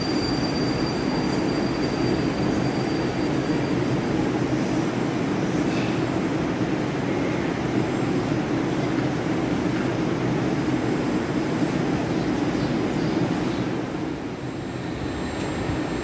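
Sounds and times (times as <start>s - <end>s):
metro train humming at platform: 0.0s - 16.0s.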